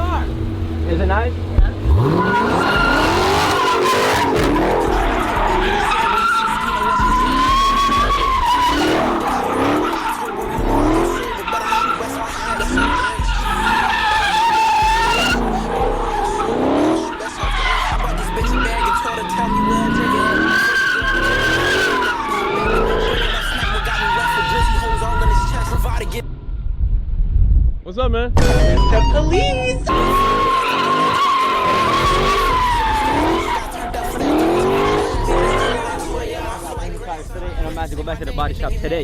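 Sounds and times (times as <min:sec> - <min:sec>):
engine revving: 0:00.0 - 0:26.2, 0:29.9 - 0:38.5
tyres squealing: 0:00.0 - 0:26.2, 0:29.9 - 0:37.9
music with deep bass beat: 0:00.2 - 0:06.2, 0:06.8 - 0:11.5, 0:12.1 - 0:27.8, 0:28.4 - 0:39.0.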